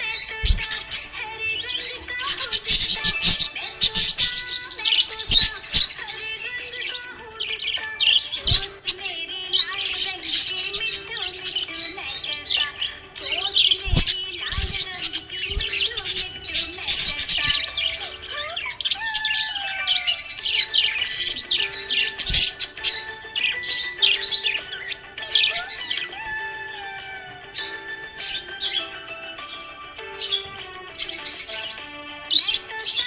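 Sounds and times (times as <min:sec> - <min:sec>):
budgies chirping and chattering: 0:00.0 - 0:33.0.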